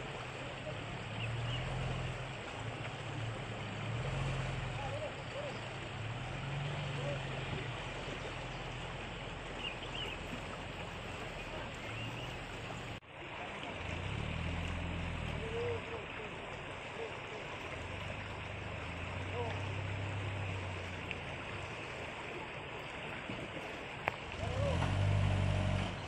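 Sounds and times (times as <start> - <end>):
stream rushing over rocks: 0.0 - 26.0
truck engine at low revs: 0.0 - 26.0.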